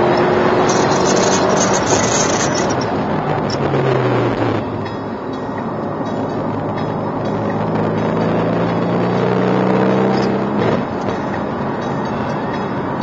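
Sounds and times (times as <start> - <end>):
car engine running hard: 0.0 - 13.0
wind and road noise: 0.0 - 13.0.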